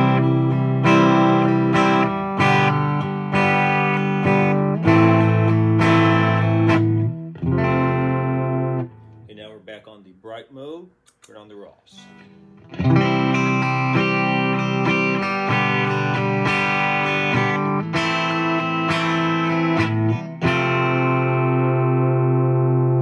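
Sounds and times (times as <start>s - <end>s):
clean electric guitar chords strummed: 0.0s - 9.6s, 12.0s - 23.0s.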